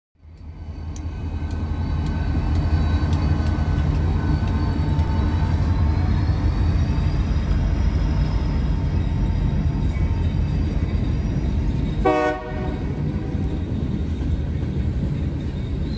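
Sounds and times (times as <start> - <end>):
locomotive rumble: 0.2 - 15.9
thin whine: 0.2 - 15.9.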